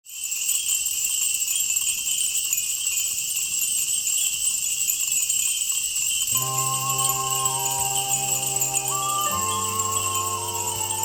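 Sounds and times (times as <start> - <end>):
wind chimes tinkling: 0.1 - 11.0.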